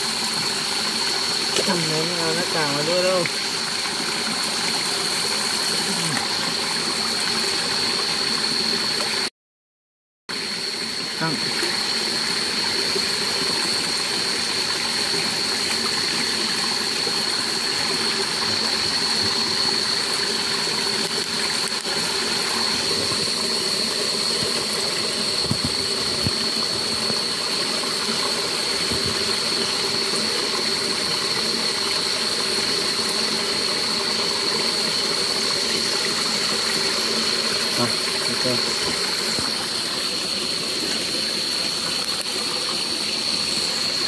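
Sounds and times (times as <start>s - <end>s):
night insects droning: 0.0s - 9.3s, 10.3s - 44.0s
stream water rushing: 0.0s - 9.3s, 10.4s - 44.0s.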